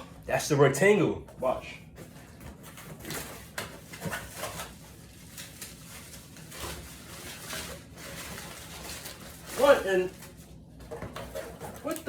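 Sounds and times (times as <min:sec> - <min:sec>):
packaging rustling: 0:02.0 - 0:12.0.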